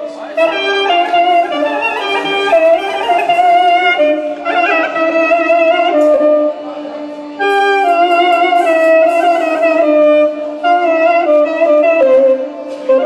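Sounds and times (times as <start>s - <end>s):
clarinet melody: 0.0s - 13.0s
electronic keyboard accompaniment: 0.0s - 13.0s.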